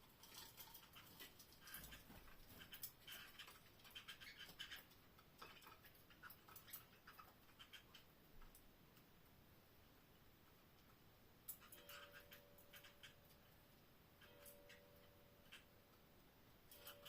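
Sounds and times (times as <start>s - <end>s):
canaries clicking and scratching: 0.0s - 9.1s, 10.4s - 17.0s.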